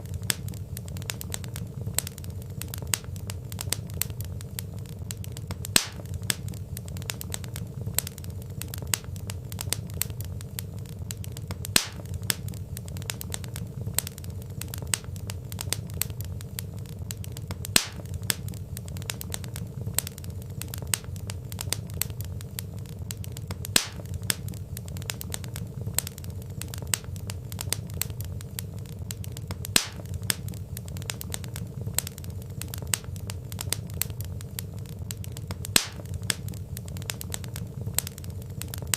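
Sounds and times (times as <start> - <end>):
burning logs rumbling: 0.0 - 38.9
sharp pop of fire: 0.0 - 38.9
wood fire crackling: 0.0 - 38.9.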